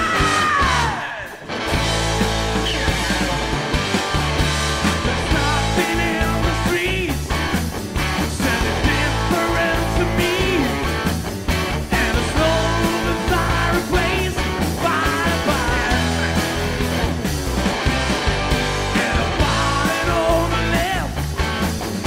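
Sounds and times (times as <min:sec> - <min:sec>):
bass line: 0:00.0 - 0:22.0
rock music with guitar: 0:00.0 - 0:22.0.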